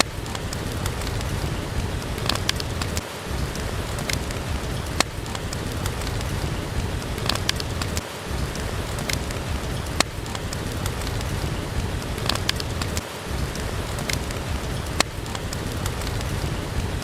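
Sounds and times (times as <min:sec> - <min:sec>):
fireplace fire popping: 0:00.0 - 0:17.0
steady rain falling: 0:00.0 - 0:17.0.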